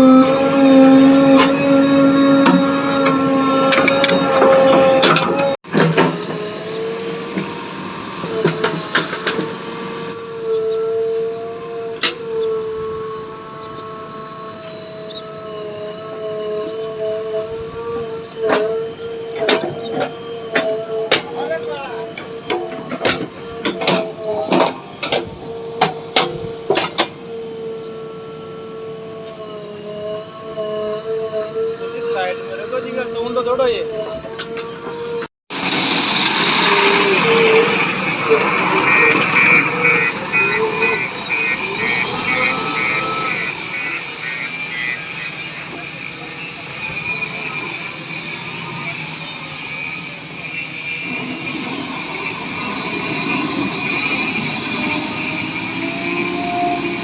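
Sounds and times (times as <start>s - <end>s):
mechanical hum: 0.0s - 57.0s
small electric motor whining: 0.0s - 57.0s.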